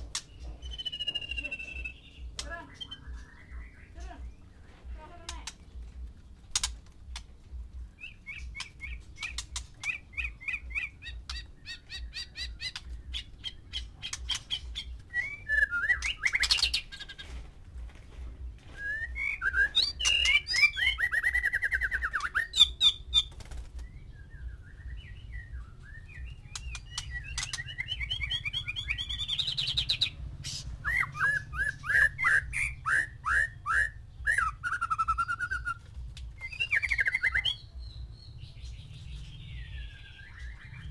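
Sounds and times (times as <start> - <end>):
birds singing and calling: 0.0 - 40.9.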